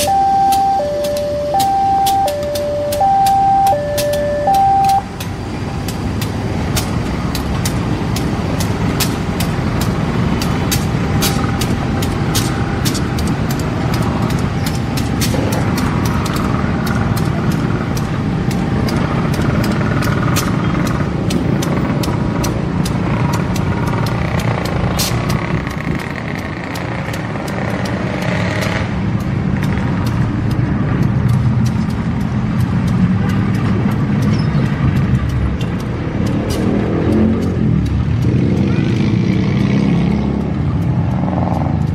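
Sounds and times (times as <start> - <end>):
diesel locomotive running: 0.0 - 41.9
sharp clicks: 0.0 - 41.9.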